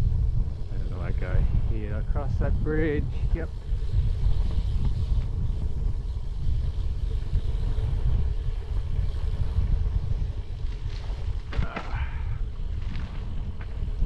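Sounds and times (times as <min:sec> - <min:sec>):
bicycle road noise: 0:00.0 - 0:14.0
wind buffeting microphone: 0:00.0 - 0:14.0.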